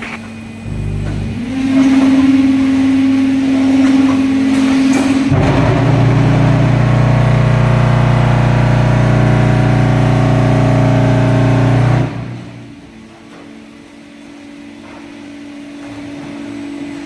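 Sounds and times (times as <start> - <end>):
block machine humming: 0.0 - 17.0.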